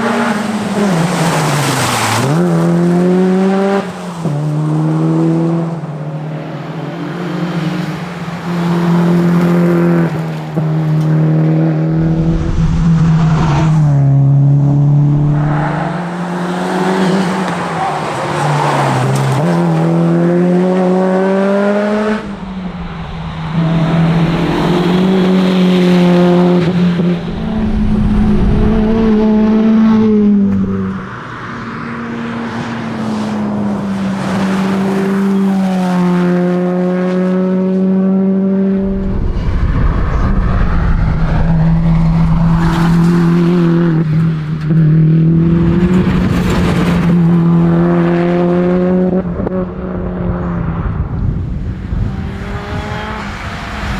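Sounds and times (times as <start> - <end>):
car engine revving hard: 0.0 - 31.1, 40.0 - 53.9.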